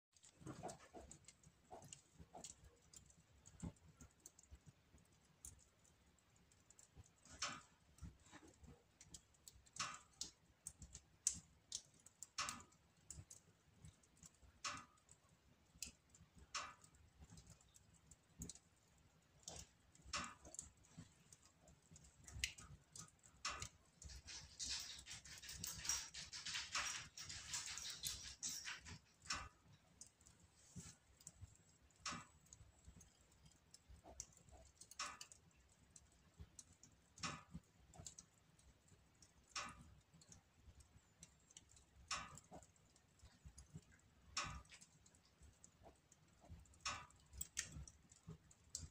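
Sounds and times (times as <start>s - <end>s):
wood fire crackling: 0.1s - 48.9s.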